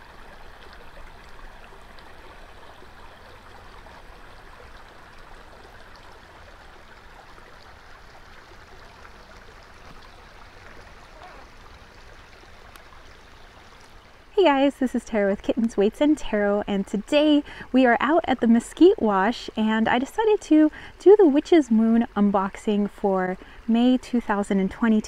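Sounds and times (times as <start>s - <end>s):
brook trickling over rocks: 0.0s - 25.0s.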